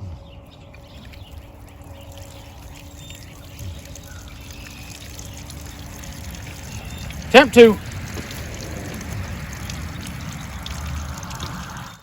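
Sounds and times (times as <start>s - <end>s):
water pouring from garden hose: 0.7s - 12.0s.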